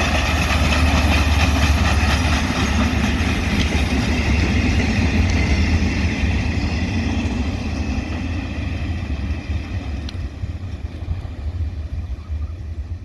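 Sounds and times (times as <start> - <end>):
diesel train rumbling past: 0.0 - 13.0.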